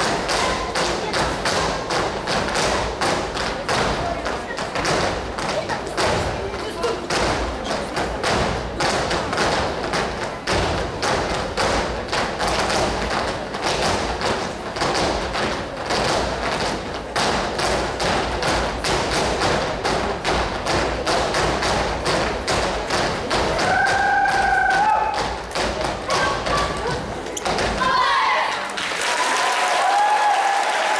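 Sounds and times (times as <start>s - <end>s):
tap shoes on wooden stage: 0.0s - 30.9s.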